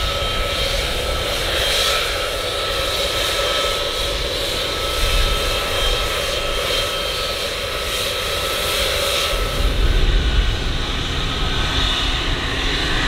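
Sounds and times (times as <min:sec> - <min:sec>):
jet engines roaring with whine: 0:00.0 - 0:13.0.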